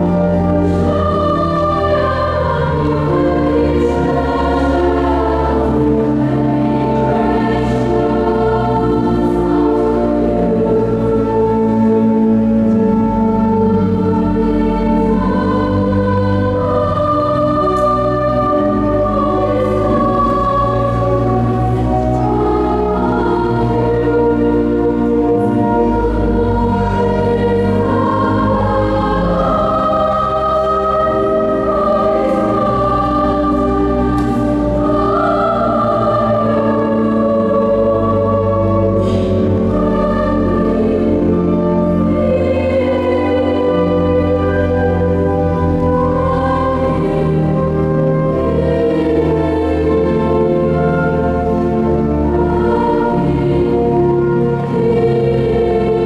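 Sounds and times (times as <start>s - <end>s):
choir singing sustained chords: 0.0s - 56.0s
pipe organ bass notes: 0.0s - 56.0s.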